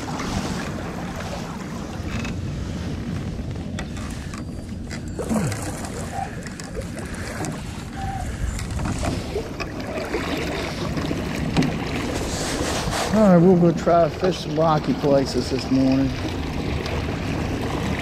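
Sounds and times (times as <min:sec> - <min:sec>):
water rushing along boat hull: 0:00.0 - 0:18.0
wind over microphone: 0:00.0 - 0:18.0.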